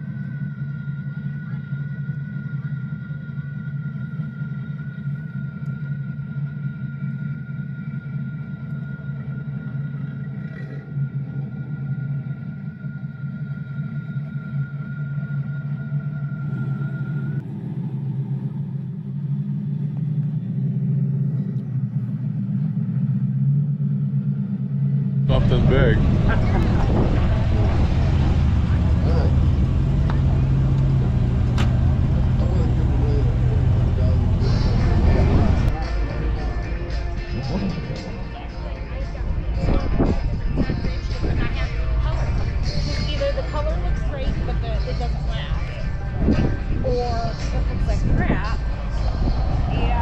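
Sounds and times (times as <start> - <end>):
car engine running: 0.0 - 50.0
faint high whine: 0.0 - 50.0
steady low rumble: 0.0 - 50.0.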